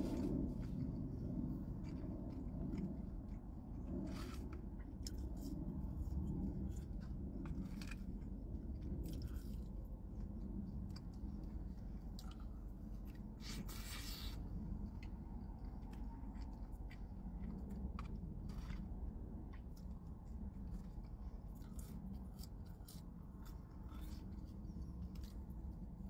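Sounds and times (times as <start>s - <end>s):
steady low hum: 0.0s - 26.0s
chewing with wet clicks: 0.2s - 26.0s.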